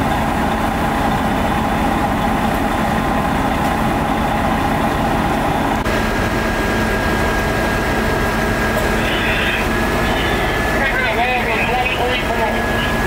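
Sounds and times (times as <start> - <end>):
heavy engine humming: 0.0 - 13.0.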